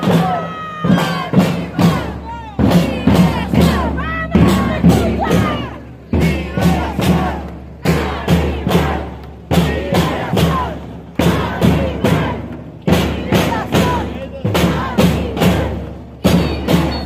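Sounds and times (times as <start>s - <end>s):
crowd voices calling out: 0.0s - 17.0s
marching bass drum and percussion: 0.0s - 17.0s.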